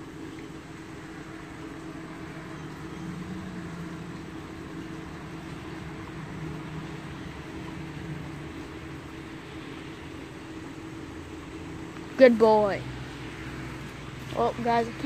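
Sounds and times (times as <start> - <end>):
motor droning: 0.0 - 15.0.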